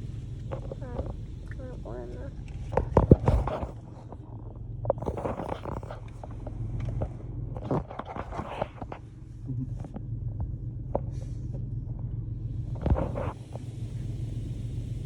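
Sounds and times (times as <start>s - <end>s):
car wash rumble: 0.0s - 15.0s.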